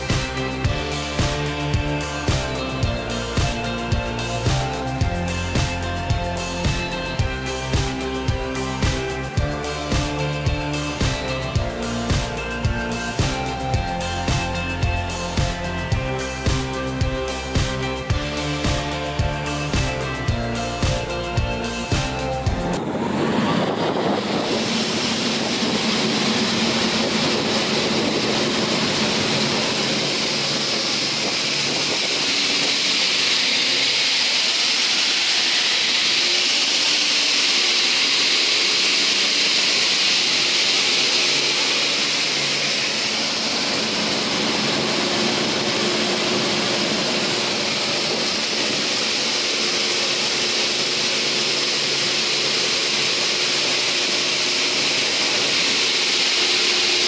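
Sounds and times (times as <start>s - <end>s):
saw blades spinning with high hiss: 0.0s - 22.8s, 24.0s - 57.0s.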